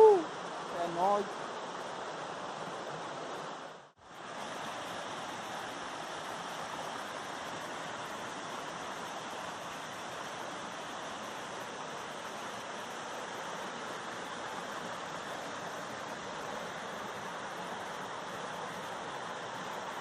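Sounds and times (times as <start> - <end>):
waterfall rushing over rock: 0.0 - 20.0.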